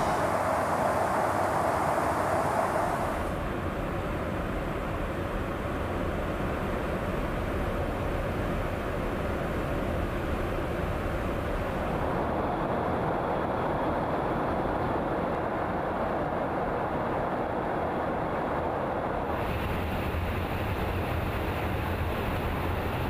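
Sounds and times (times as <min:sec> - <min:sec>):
aircraft engine and airflow noise: 0:00.0 - 0:23.0.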